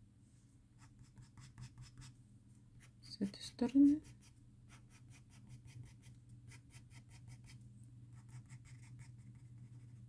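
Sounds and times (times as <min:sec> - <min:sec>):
pencil scratching on paper: 0:00.8 - 0:02.2, 0:02.8 - 0:10.0.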